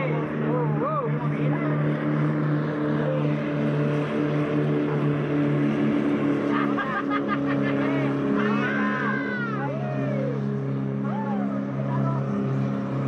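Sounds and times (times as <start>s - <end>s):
racing boat engines running flat out: 0.0s - 13.0s.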